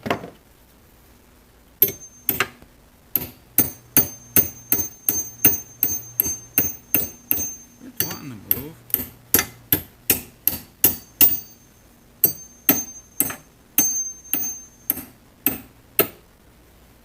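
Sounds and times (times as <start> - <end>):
metal-on-metal strikes ringing: 1.8 - 2.5, 3.2 - 16.1.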